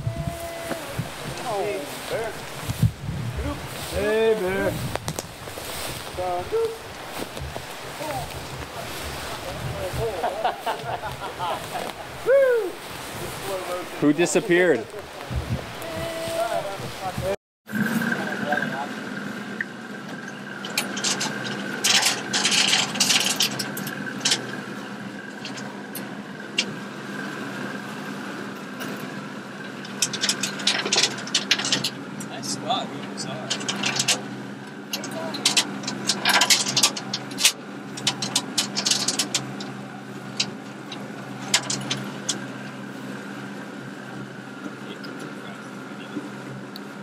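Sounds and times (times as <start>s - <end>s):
scraping and rubbing noises: 0.0s - 18.9s, 20.5s - 26.0s, 28.8s - 45.4s
boat engine running: 0.0s - 47.0s.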